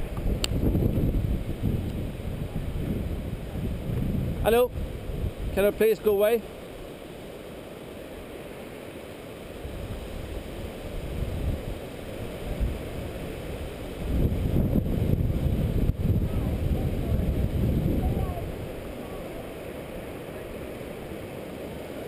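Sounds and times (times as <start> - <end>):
wind buffeting microphone: 0.0 - 5.8, 9.5 - 21.8.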